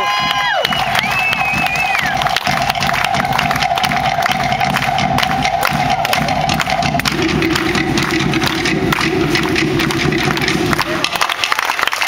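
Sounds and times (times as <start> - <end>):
fast drumming: 0.0 - 12.0
steady held tone: 0.7 - 11.2.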